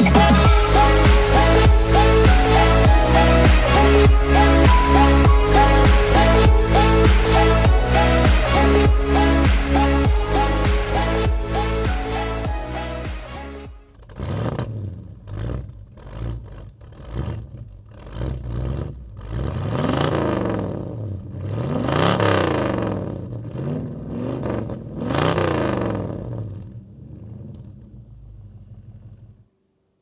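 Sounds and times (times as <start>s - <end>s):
car engine revving: 0.0s - 29.4s.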